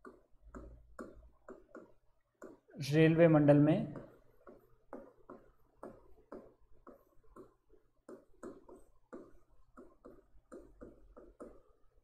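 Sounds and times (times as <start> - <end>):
pen writing on a board: 0.0 - 2.8, 3.9 - 12.0.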